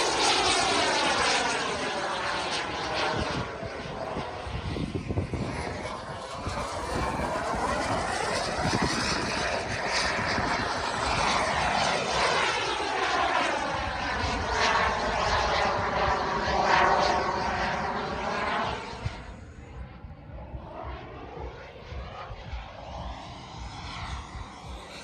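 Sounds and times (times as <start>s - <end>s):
model jet turbine flying past: 0.0s - 25.0s.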